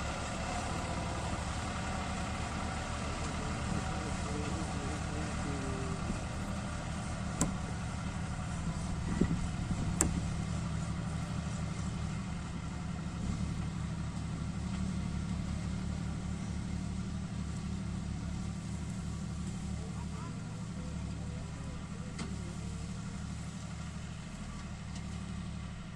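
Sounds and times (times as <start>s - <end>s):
diesel tractor engine running: 0.0s - 25.9s.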